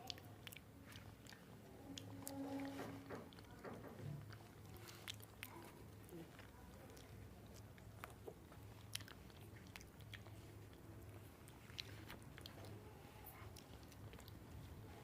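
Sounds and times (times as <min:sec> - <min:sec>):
low steady hum: 0:00.0 - 0:15.0
people chewing: 0:00.0 - 0:15.0.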